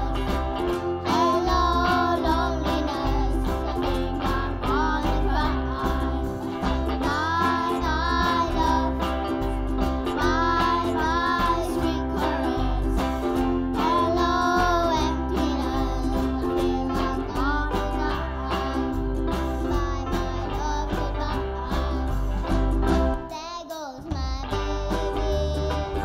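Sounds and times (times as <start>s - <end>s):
children singing: 0.0s - 22.7s, 23.6s - 26.0s
steady bass line: 0.0s - 23.2s
keyboard piano: 0.0s - 23.4s
ukulele strumming: 0.0s - 26.0s.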